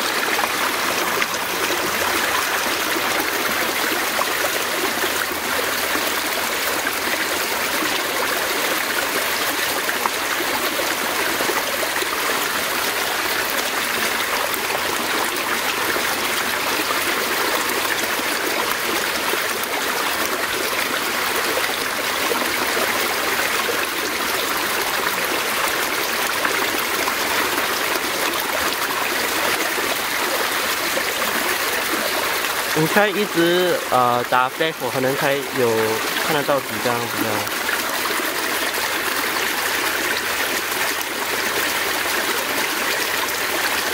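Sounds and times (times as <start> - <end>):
stream rushing water: 0.0 - 43.9.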